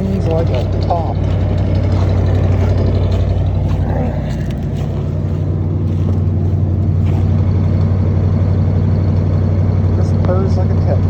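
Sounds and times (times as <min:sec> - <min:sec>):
car engine fast idle: 0:00.0 - 0:11.0.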